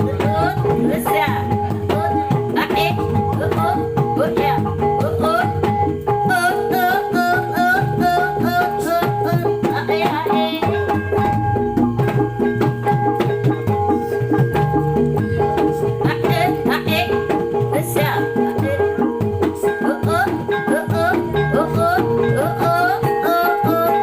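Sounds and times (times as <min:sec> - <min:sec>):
drums steady beat: 0:00.0 - 0:24.0
wavering high melody: 0:00.0 - 0:24.0
sustained ringing pitched tones: 0:00.2 - 0:24.0.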